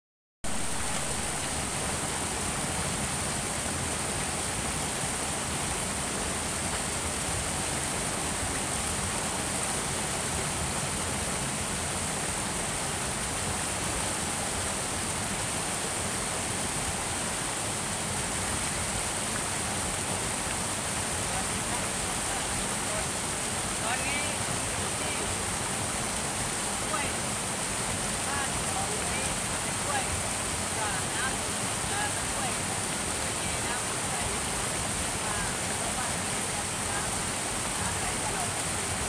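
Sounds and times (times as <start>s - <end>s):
stream water rushing over rocks: 0.4s - 39.0s.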